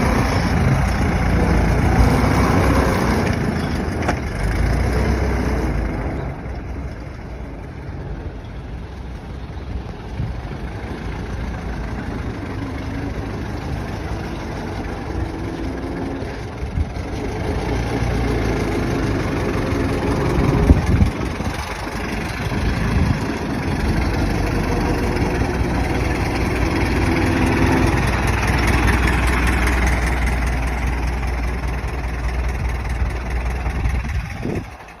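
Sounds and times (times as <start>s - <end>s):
old car engine running: 0.0s - 35.0s.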